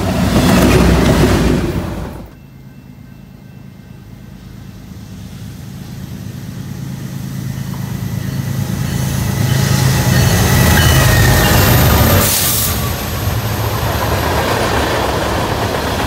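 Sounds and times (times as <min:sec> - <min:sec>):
diesel locomotive engines droning: 0:00.0 - 0:16.0.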